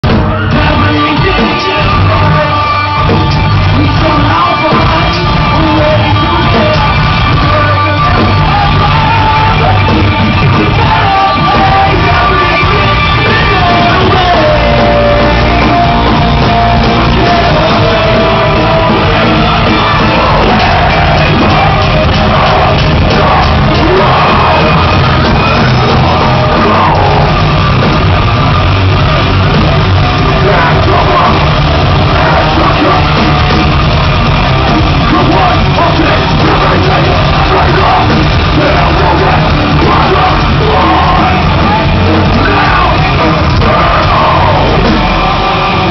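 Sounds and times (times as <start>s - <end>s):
person singing and shouting: 0.0s - 28.2s, 29.1s - 45.9s
live rock band playing: 0.0s - 45.9s.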